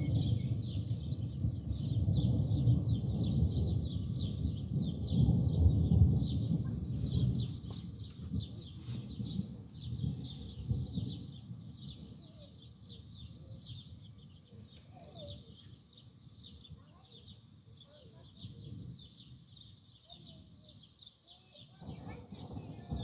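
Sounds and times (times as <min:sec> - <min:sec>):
distant thunder rumble: 0:00.0 - 0:17.2, 0:21.6 - 0:23.0
small birds chirping: 0:00.0 - 0:23.0.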